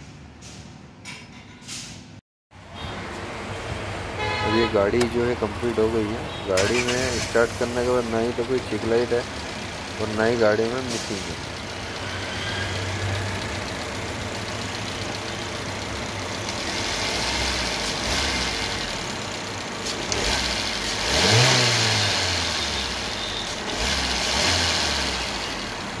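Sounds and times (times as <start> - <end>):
car engine idling and revving: 2.6 - 26.0.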